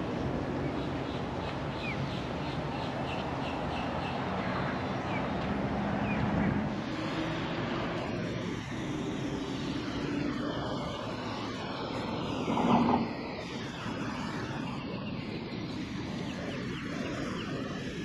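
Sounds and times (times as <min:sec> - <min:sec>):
distant engine drone: 0:00.0 - 0:18.0.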